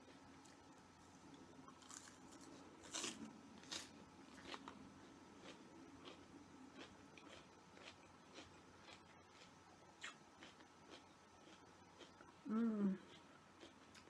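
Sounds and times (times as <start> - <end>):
person chewing crunchy food: 1.2 - 12.4, 13.0 - 14.0.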